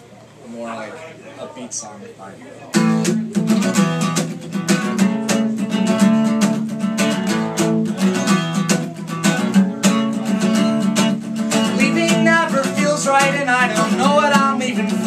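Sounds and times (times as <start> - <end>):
acoustic guitar strumming: 2.7 - 15.0.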